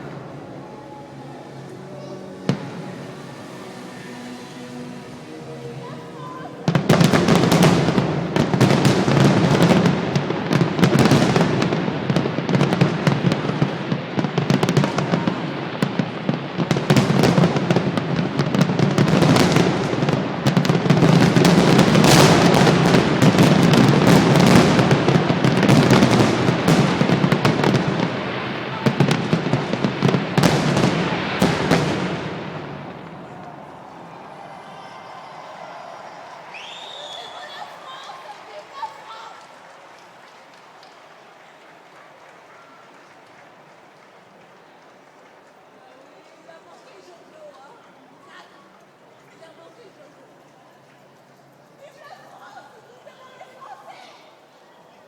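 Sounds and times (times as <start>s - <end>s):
fireworks bangs and crackling: 0.0s - 3.7s, 6.6s - 47.0s.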